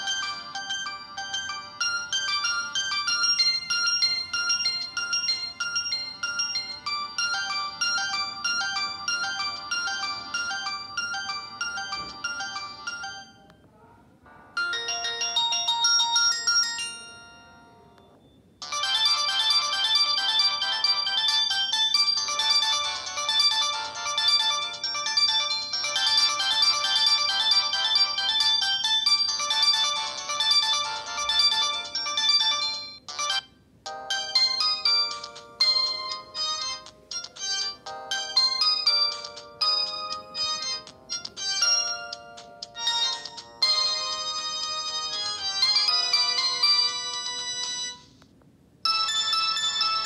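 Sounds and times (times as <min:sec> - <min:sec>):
mobile phone ringtone melodies: 0:00.0 - 0:13.6, 0:14.3 - 0:48.2, 0:48.8 - 0:50.0.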